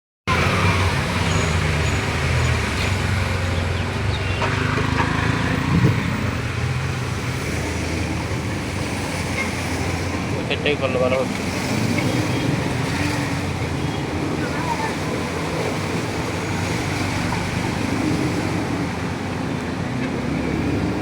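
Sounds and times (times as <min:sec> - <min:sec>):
vehicle engine humming: 0:00.3 - 0:21.0
constant wash of noise: 0:00.4 - 0:21.0.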